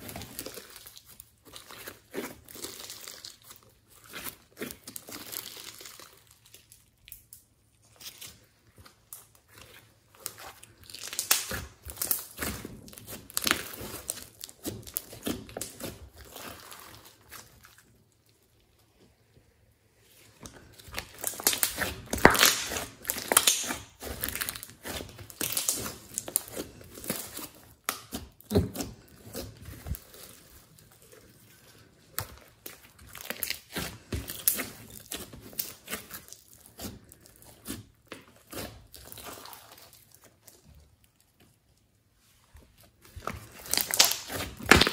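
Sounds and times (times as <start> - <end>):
slime crackling being kneaded: 0.0 - 44.9.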